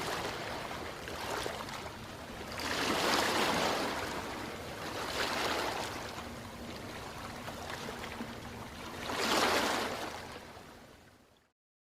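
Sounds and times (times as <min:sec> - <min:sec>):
ocean waves washing on shore: 0:00.0 - 0:10.9.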